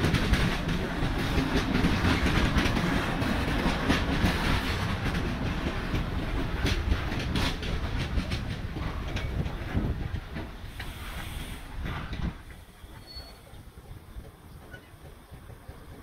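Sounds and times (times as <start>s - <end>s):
freight train rumbling past: 0.0s - 16.0s
wheels clacking on track: 0.0s - 16.0s.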